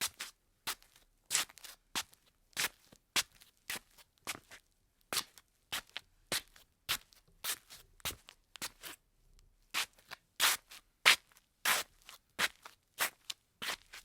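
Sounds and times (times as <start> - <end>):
slippers shuffling on tile: 0.0 - 4.6, 5.2 - 9.0, 9.8 - 14.0.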